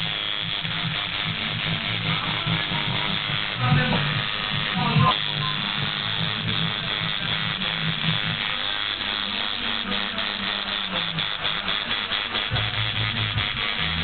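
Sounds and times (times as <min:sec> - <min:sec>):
tattoo machine buzzing: 0:00.0 - 0:14.0.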